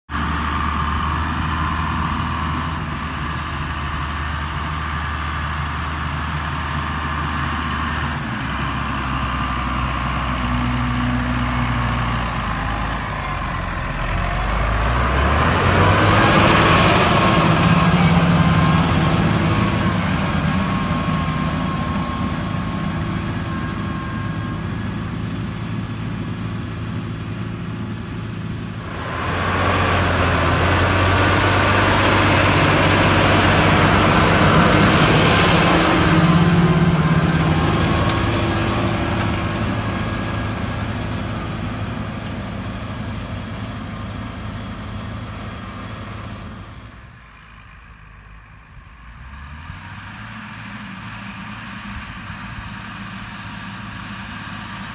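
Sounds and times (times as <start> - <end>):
tractor diesel engine running: 0.1 - 54.9.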